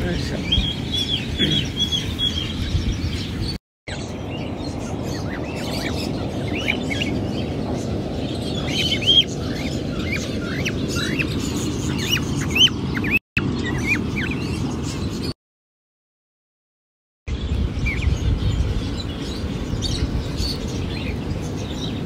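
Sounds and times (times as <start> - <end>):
small birds chirping: 0.0 - 15.4, 17.3 - 22.0.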